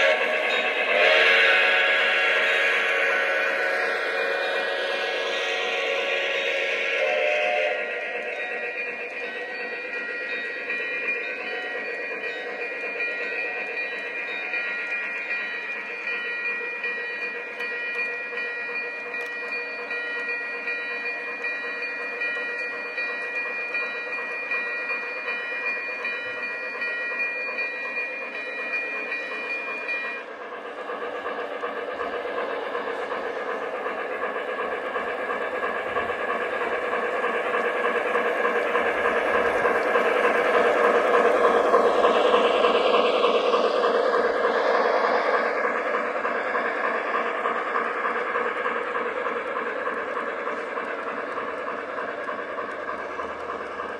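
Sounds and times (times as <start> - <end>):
model train cars rolling on track: 0.0 - 53.9.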